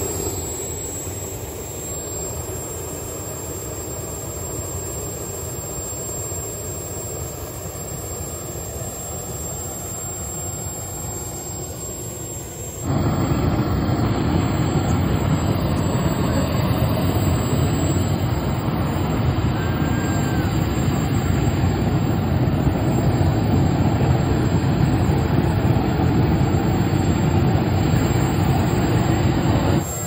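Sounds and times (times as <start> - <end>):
jet engine roaring: 0.0 - 30.0.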